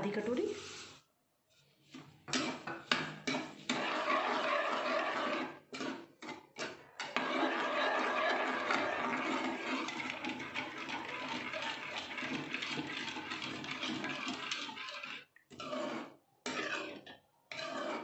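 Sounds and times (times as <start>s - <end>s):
ladle strokes in pot: 0.1s - 18.0s.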